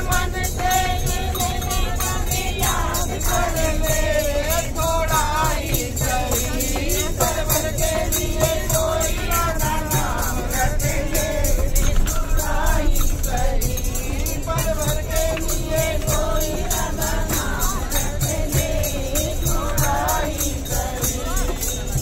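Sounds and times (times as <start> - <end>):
clapping and jingling percussion: 0.0 - 22.0
voices singing devotional song: 0.0 - 22.0.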